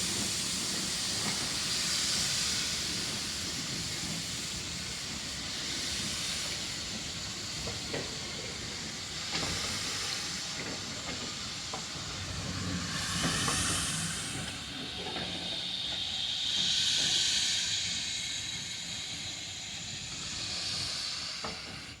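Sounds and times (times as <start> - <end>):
steam locomotive hissing: 0.0 - 22.0.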